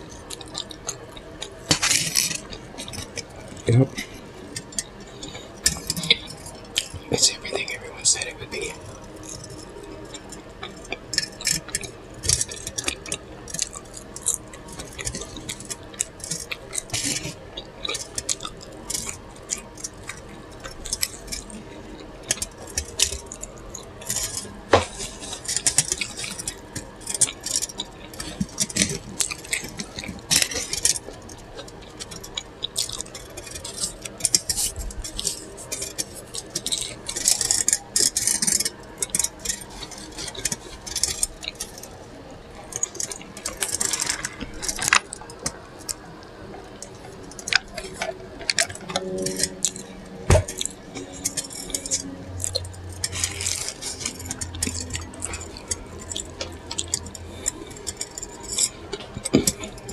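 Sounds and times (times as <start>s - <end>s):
chewing and lip smacking: 0.0s - 59.9s.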